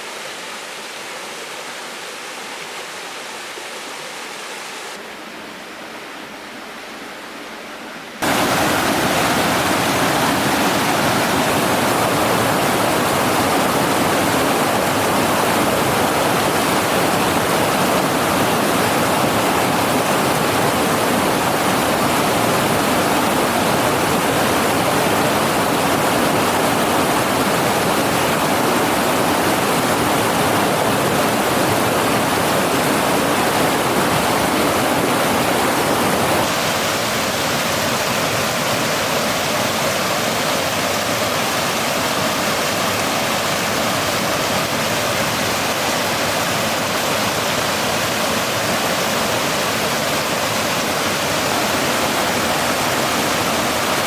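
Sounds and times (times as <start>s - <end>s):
rushing river water: 0.0s - 54.0s.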